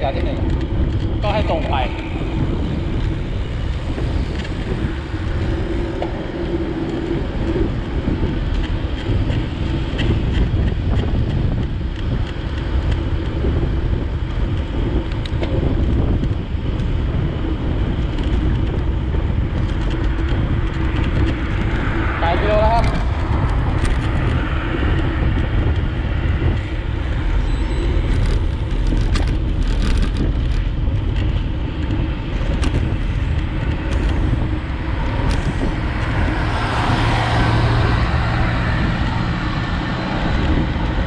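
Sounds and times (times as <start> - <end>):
road and traffic rumble: 0.0 - 41.0
wind buffeting microphone: 0.0 - 41.0.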